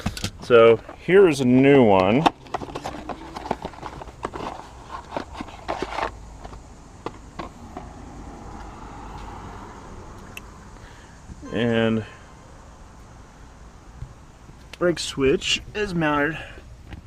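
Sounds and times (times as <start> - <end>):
faint steady background hiss: 0.0 - 17.0.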